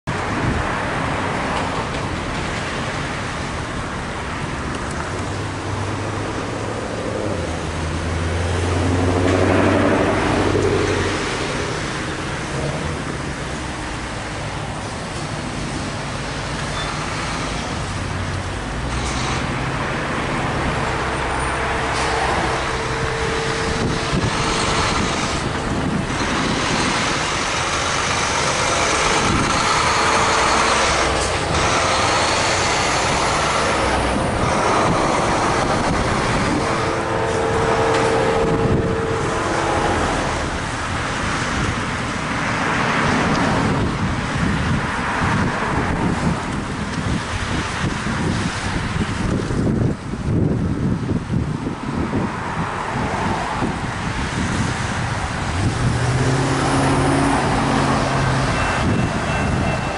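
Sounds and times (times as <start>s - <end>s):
cars and trucks driving by: 0.0s - 59.9s
heavy truck engine: 0.0s - 59.9s.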